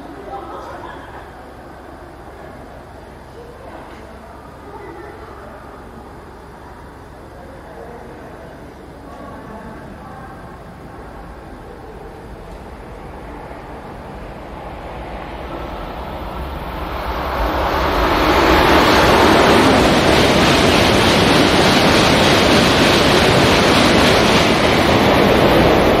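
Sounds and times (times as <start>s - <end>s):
high speed train passing: 0.0s - 26.0s.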